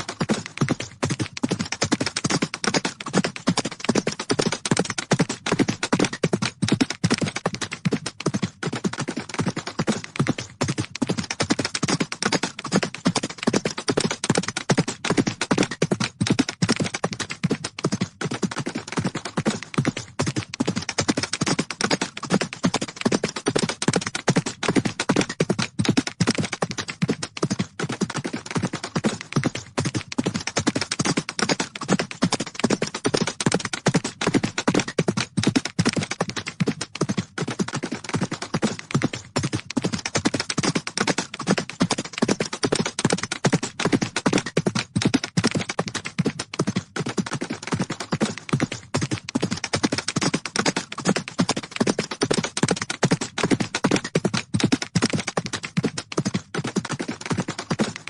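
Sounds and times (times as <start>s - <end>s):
horses galloping hoofbeats: 0.0s - 58.0s.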